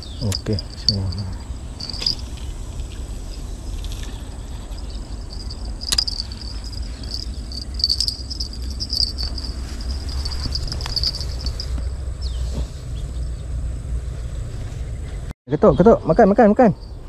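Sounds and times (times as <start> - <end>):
insect chorus buzzing: 0.0 - 13.9
low rumble: 0.0 - 14.6.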